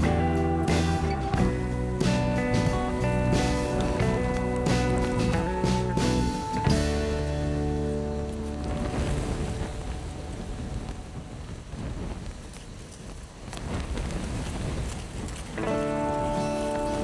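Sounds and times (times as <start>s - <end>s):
grass rustling in wind: 0.0s - 17.0s
wind buffeting microphone: 0.0s - 17.0s.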